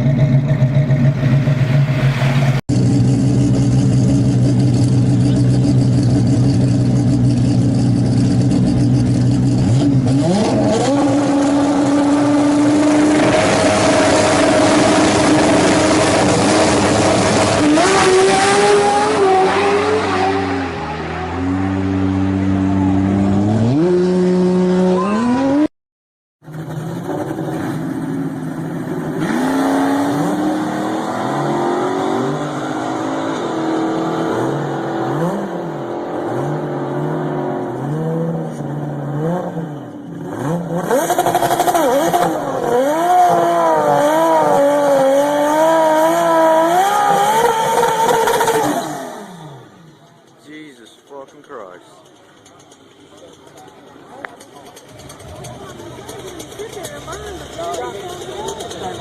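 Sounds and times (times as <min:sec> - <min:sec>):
car engine revving: 0:00.0 - 0:25.7, 0:26.5 - 0:59.0.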